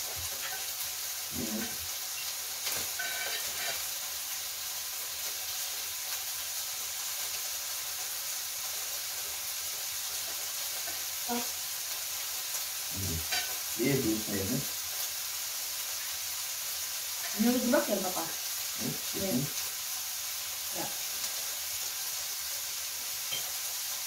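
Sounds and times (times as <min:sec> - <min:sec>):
food sizzling on a grill: 0:00.0 - 0:24.0.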